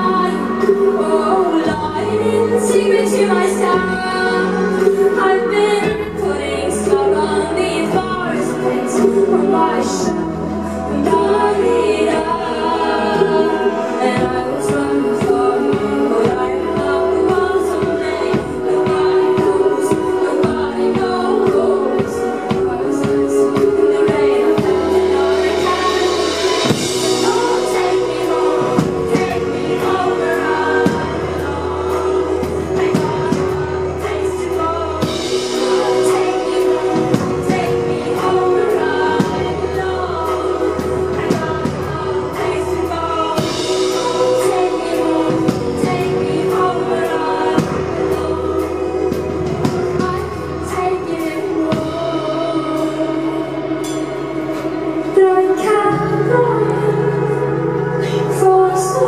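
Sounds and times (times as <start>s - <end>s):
instrumental pop backing: 0.0s - 59.0s
woman singing into a microphone: 0.0s - 59.0s.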